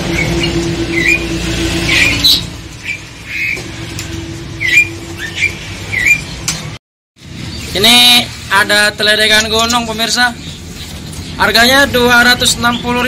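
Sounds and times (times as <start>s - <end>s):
songbirds giving call notes: 0.0s - 13.0s.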